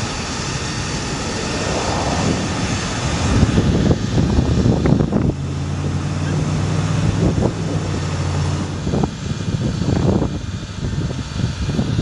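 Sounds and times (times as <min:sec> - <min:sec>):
low engine hum: 0:00.0 - 0:12.0
wind noise on microphone: 0:00.0 - 0:12.0.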